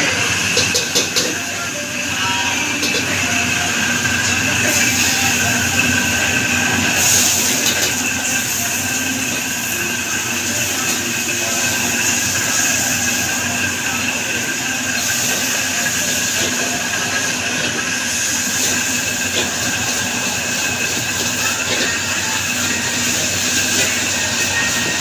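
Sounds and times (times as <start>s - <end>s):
food sizzling in a wok: 0.0s - 25.0s
gas burner roaring: 0.0s - 25.0s.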